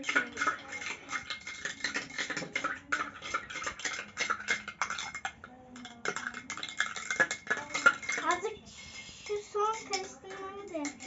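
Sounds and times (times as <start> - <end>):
foamy water being stirred: 0.0 - 11.0
spoon clinking against glass: 0.0 - 11.0.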